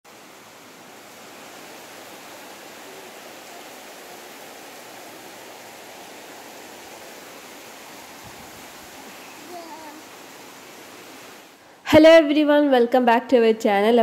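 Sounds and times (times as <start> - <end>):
heavy rain on gravel: 0.1 - 11.6.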